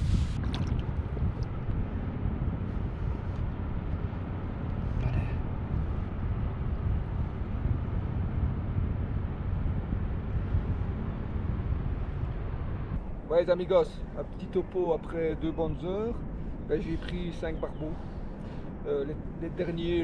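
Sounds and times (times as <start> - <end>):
low rushing outdoor noise: 0.0 - 20.0.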